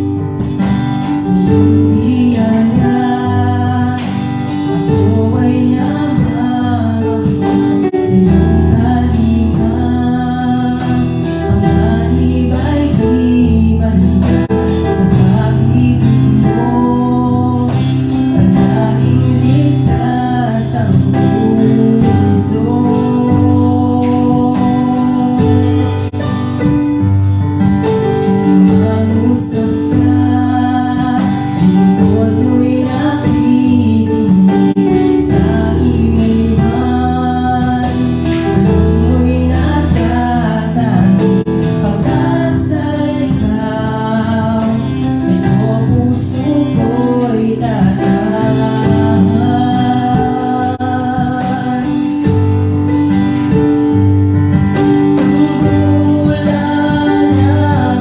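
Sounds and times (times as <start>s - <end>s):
bass line: 0.0s - 58.0s
guitar accompaniment: 0.0s - 58.0s
worship singing: 0.0s - 58.0s.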